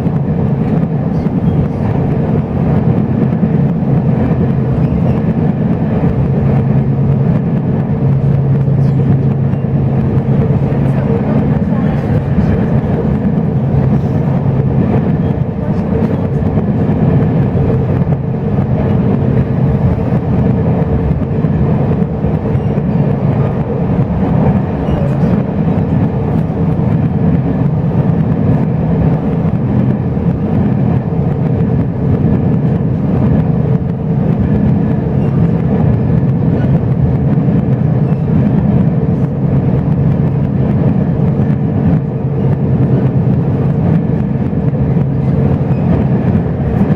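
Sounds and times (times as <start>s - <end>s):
train carriage rumbling: 0.0s - 46.9s.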